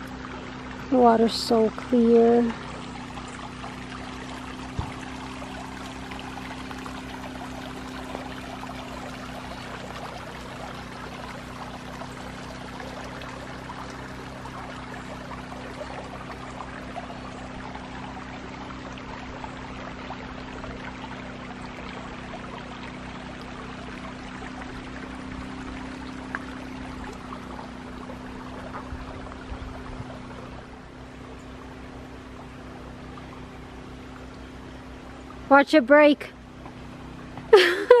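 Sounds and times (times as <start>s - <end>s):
low hum: 0.0s - 38.0s
stream water trickling: 0.0s - 38.0s.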